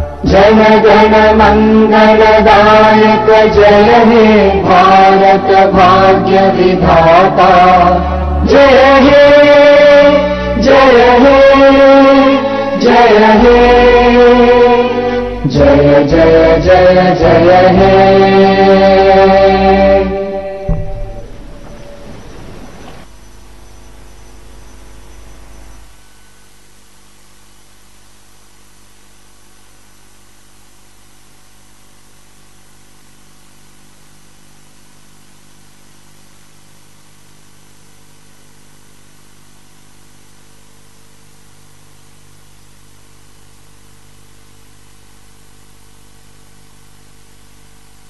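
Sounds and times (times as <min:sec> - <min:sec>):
steady hum with hiss: 0:00.0 - 0:48.0.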